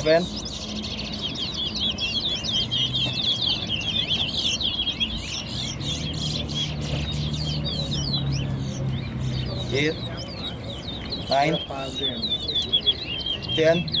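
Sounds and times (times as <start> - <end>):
finches twittering and chirping: 0.0 - 14.0.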